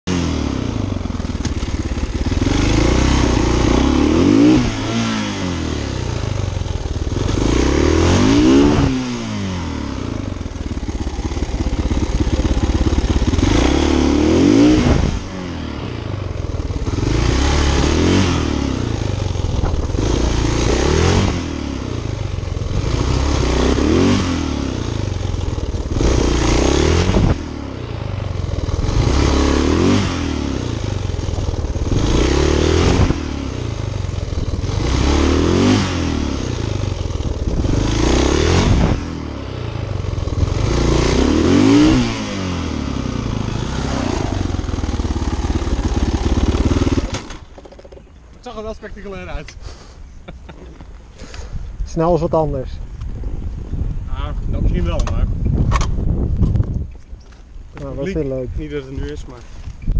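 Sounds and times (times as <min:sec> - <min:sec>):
motorcycle engine revving: 0:00.0 - 0:49.5.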